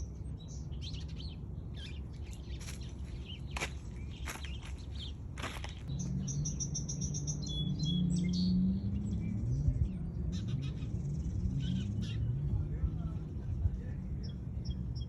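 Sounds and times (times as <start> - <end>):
low wavering hum: 0.0 - 15.0
small songbirds chirping: 0.0 - 15.0.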